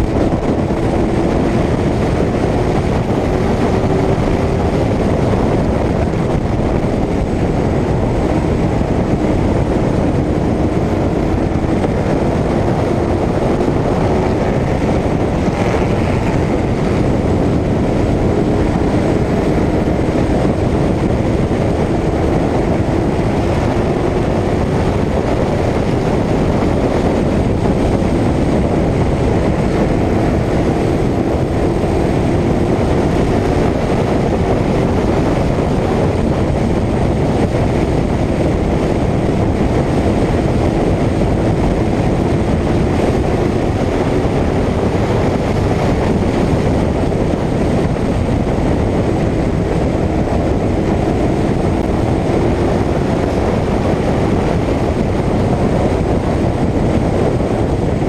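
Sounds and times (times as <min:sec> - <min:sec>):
race car engine droning: 0:00.0 - 0:58.0.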